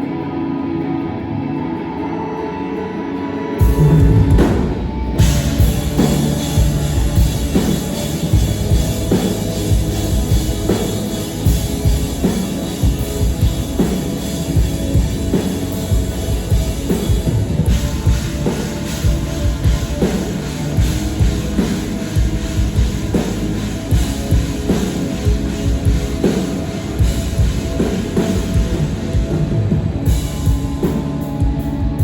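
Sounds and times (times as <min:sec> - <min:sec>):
live rock band playing: 0:00.0 - 0:32.0
pounding drum kit: 0:03.6 - 0:32.0.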